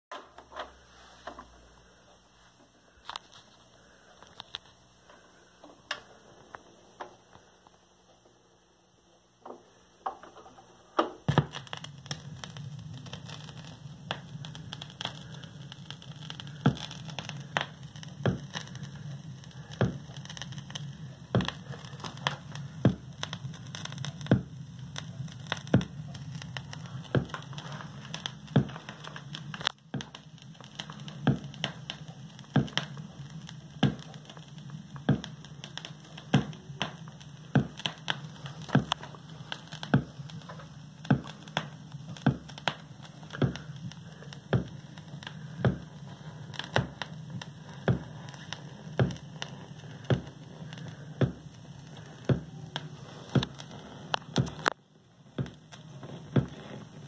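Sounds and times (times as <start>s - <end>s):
vinyl record clicks and pops: 0.1s - 1.6s, 3.0s - 8.4s, 9.4s - 57.0s
vinyl record hum and hiss: 0.1s - 57.0s.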